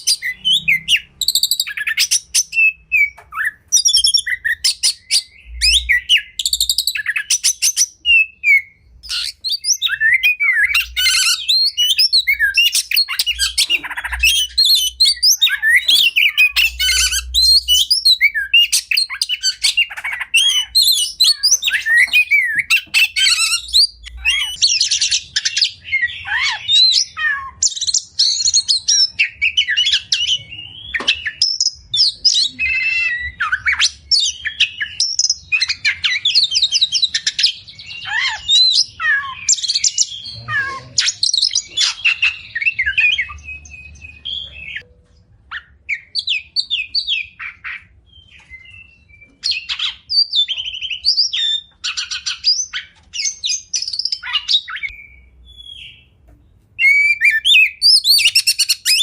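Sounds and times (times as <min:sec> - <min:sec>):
songbird whistling and trilling: 0:00.0 - 0:44.9, 0:45.5 - 0:56.2, 0:56.8 - 0:59.0.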